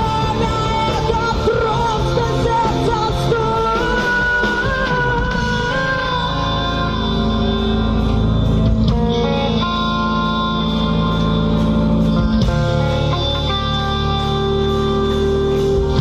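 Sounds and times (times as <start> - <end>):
drums keeping a steady beat: 0.0 - 16.0
guitar holding notes: 0.0 - 16.0.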